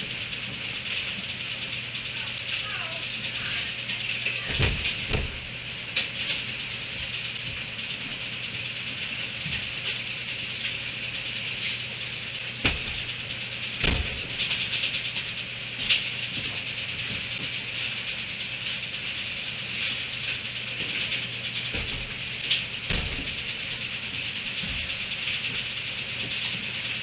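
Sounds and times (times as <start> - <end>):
metal hay rack rattling: 0.0 - 27.0.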